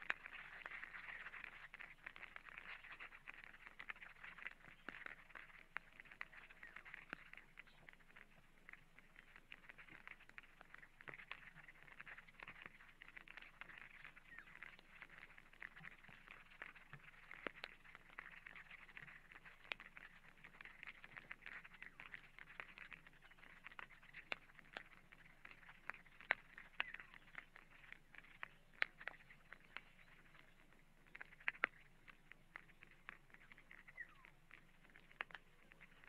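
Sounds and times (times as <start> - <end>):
small scattered ticks: 0.0 - 36.0.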